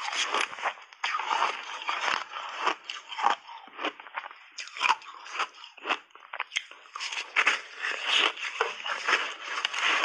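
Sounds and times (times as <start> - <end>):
ice being chewed: 0.0 - 10.0.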